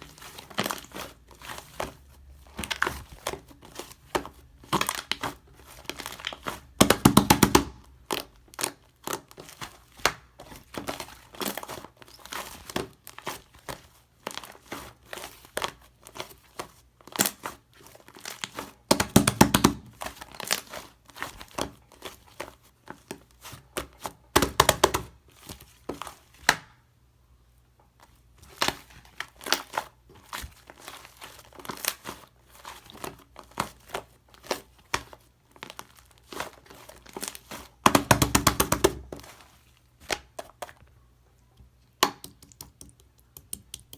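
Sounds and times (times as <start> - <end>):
slime squelching: 0.0 - 26.6, 28.0 - 40.8.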